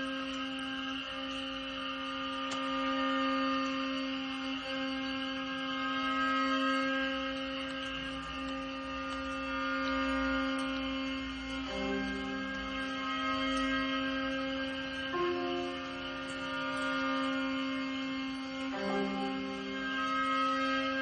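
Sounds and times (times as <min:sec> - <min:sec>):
ensemble holding long buzzy note: 0:00.0 - 0:21.0.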